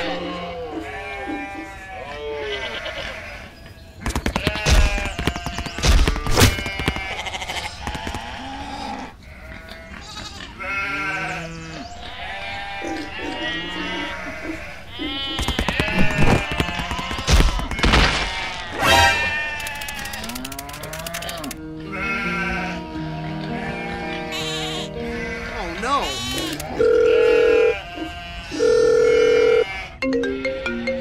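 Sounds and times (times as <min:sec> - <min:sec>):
goats and sheep bleating: 0:00.0 - 0:31.0.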